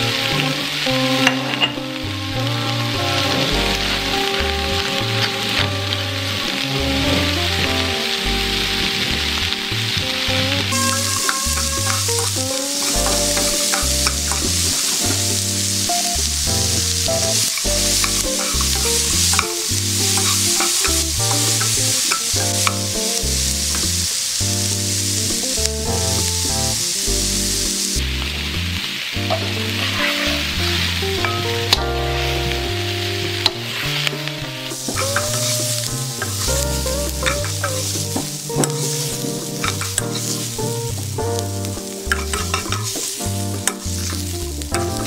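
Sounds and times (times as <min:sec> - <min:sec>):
background music with bass: 0:00.0 - 0:45.0
vegetables sizzling in a wok: 0:00.0 - 0:45.0.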